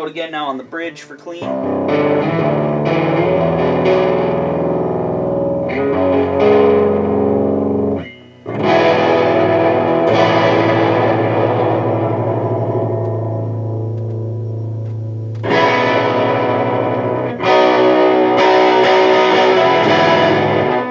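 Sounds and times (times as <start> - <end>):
electric guitar chords: 0.9 - 20.9.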